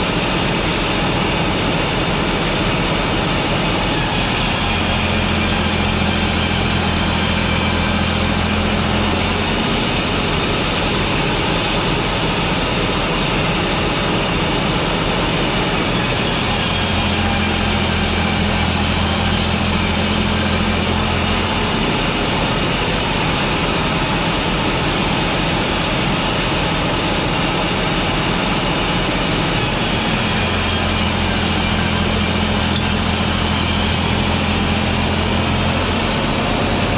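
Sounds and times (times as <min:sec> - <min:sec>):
sawmill machinery running: 0:00.0 - 0:36.9
saw cutting timber: 0:02.7 - 0:36.9.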